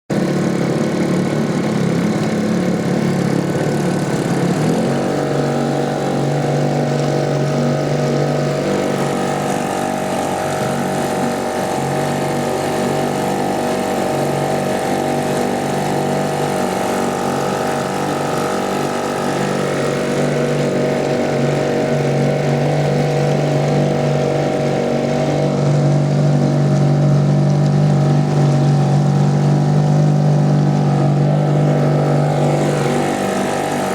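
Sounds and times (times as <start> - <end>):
outboard motor running: 0.1 - 33.9.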